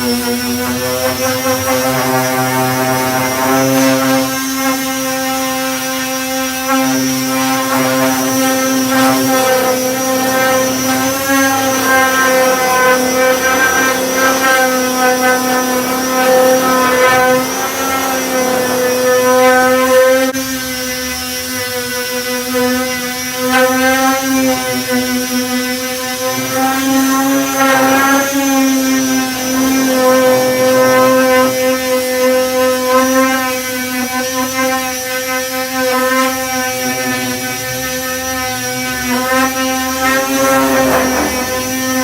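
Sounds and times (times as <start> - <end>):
electric disc sander whining: 0.0 - 42.0.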